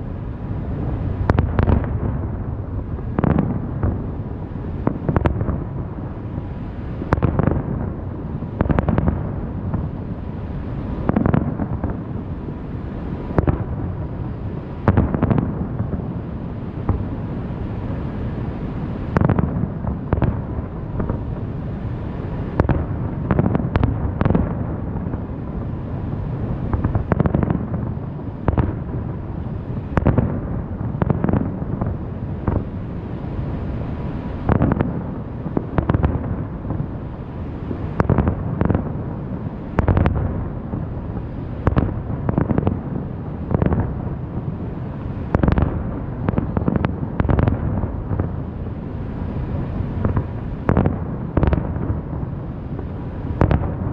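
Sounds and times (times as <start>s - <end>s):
fireworks bangs: 0.7s - 53.9s.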